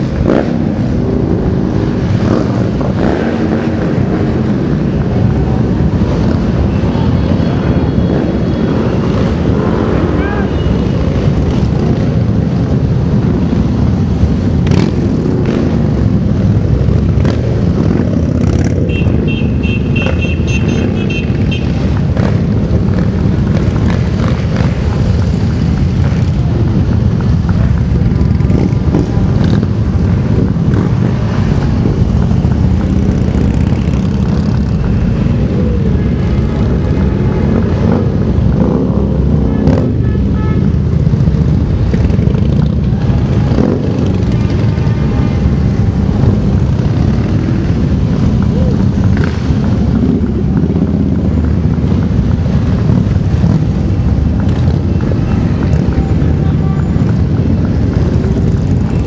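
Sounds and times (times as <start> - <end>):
motorcycles riding past: 0.0 - 59.0.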